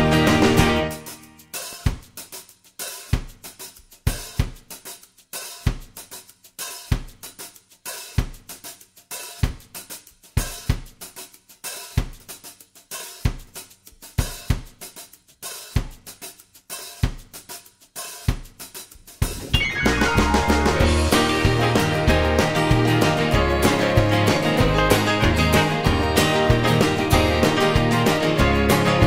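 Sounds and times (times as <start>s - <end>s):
drum kit beat: 0.0s - 29.0s.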